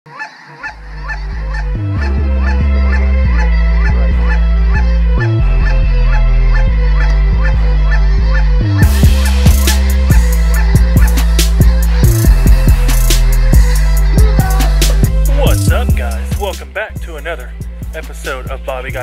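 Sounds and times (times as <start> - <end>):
flock of geese calling: 0.1 - 15.8
music with deep bass: 0.8 - 19.0.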